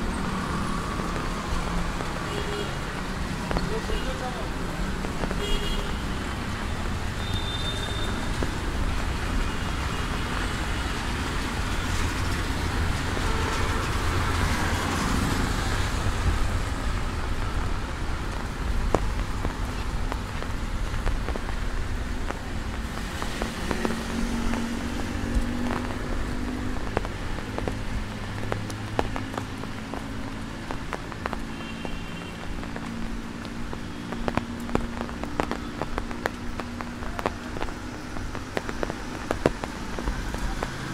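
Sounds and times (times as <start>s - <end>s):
rain falling on wet street: 0.0s - 40.9s
tyres hissing on wet tarmac: 0.0s - 40.9s.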